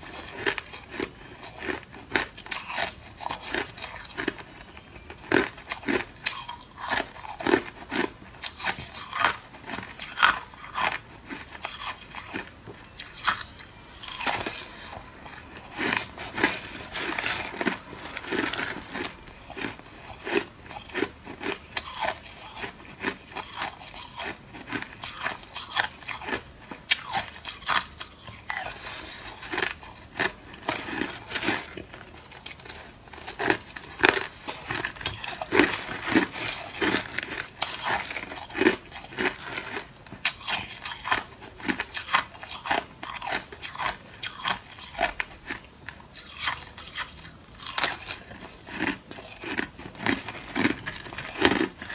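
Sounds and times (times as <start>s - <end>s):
chewing crunchy ice: 0.0s - 51.9s.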